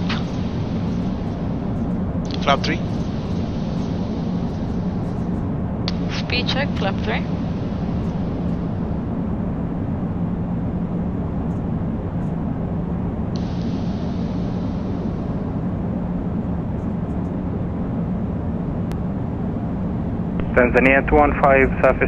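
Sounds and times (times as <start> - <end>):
cockpit airflow drone: 0.0 - 22.0.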